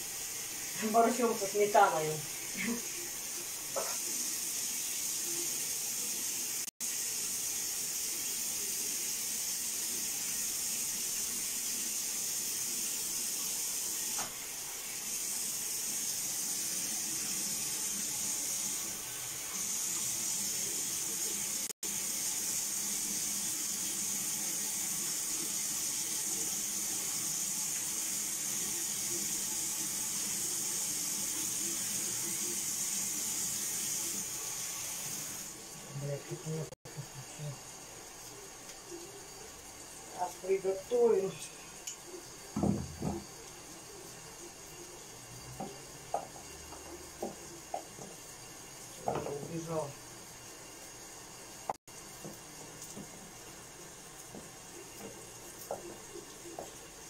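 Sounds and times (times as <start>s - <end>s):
tap water running into sink: 0.0s - 35.8s, 37.8s - 57.0s.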